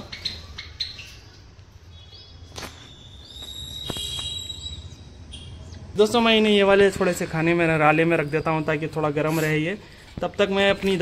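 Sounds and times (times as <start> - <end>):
cage birds chirping: 0.0 - 11.0.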